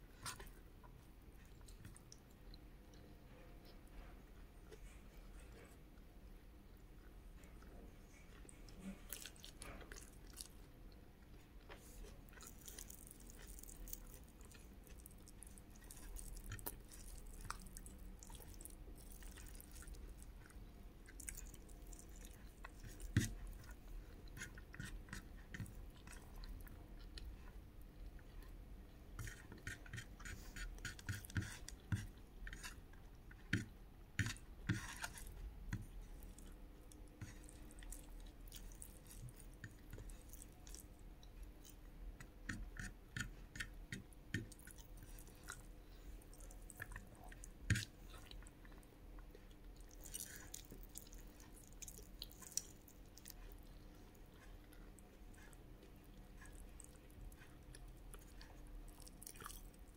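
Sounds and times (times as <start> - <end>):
person chewing with wet clicks: 0.2 - 3.1, 6.0 - 59.9.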